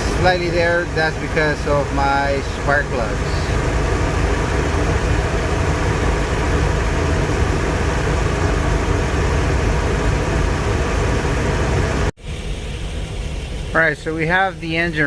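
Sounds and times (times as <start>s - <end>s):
engine running with misfire: 0.0s - 15.0s.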